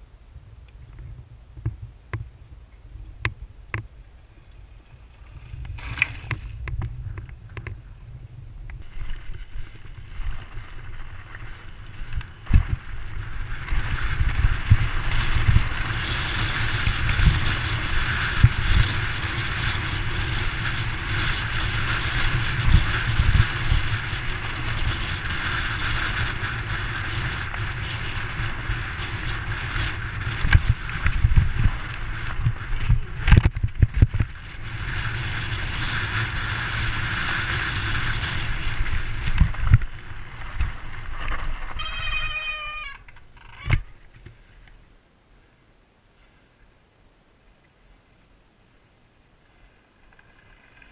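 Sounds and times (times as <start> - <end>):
wind on microphone: 0.0 - 44.4
bike tyre rumble: 0.0 - 45.0, 48.9 - 50.9
bike rattling over stones: 3.7 - 44.4, 50.0 - 50.9.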